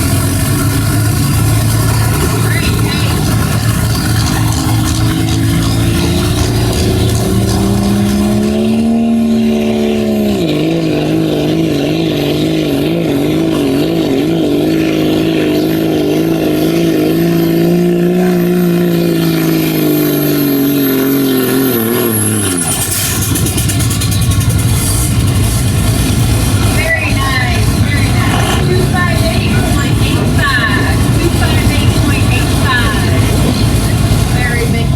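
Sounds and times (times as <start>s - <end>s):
diesel truck engine at full throttle: 0.0s - 34.9s.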